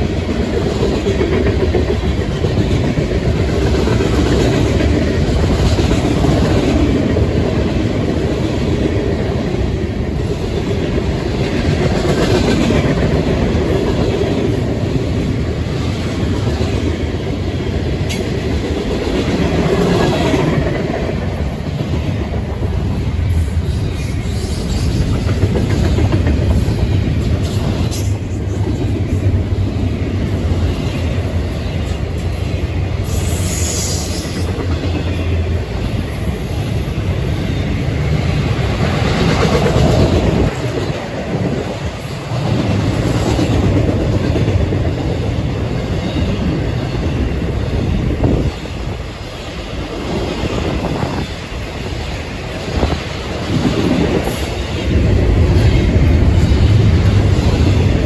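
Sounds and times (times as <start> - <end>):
freight cars rumbling on rails: 0.0 - 58.0.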